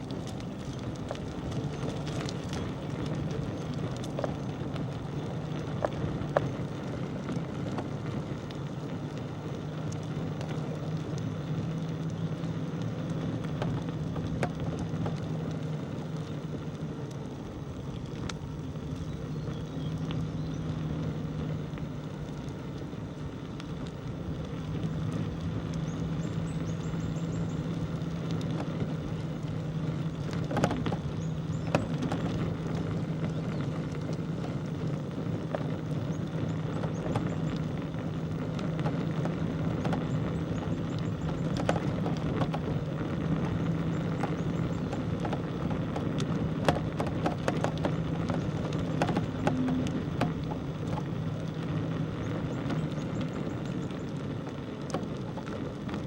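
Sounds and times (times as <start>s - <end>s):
bicycle rolling on road: 0.0s - 56.0s
low hum: 0.0s - 56.0s
small clicks and rattles: 0.0s - 56.0s.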